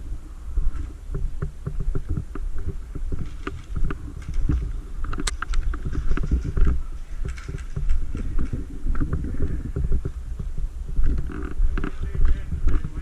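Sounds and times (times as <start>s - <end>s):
low rumbling movement: 0.0s - 13.0s
wind noise on microphone: 0.0s - 13.0s
small clicks and knocks: 1.1s - 12.1s.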